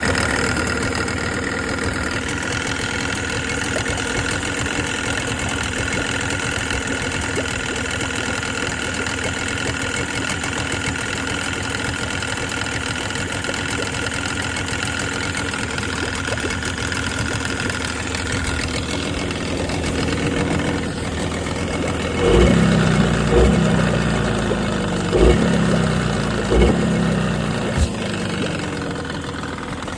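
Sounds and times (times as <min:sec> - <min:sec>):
outboard motor running with knock: 0:00.0 - 0:29.9.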